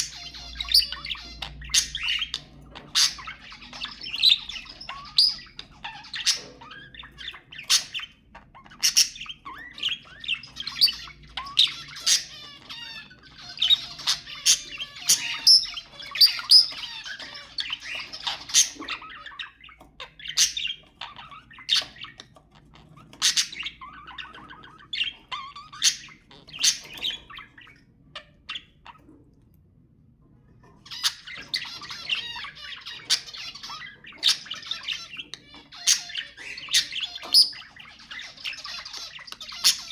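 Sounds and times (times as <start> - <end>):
budgerigars chattering: 0.0 - 29.1, 30.8 - 39.9.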